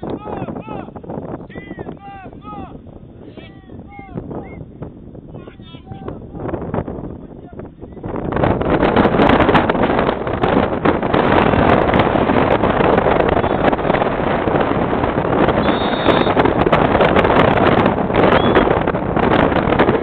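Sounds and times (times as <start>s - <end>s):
wind buffeting a microphone: 0.0s - 20.0s.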